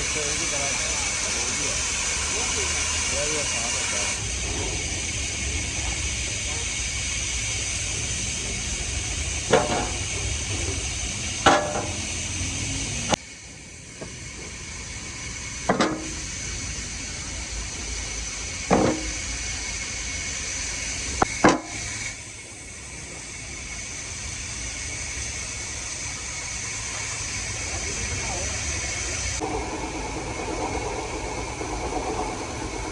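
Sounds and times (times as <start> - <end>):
steady hiss: 0.0 - 32.9.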